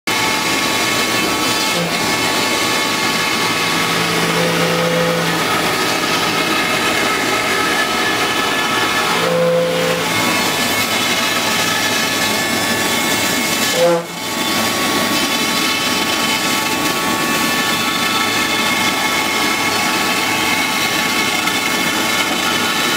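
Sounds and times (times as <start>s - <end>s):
cutter rushing through foam: 0.1s - 22.9s
router spindle high whine: 0.1s - 22.9s.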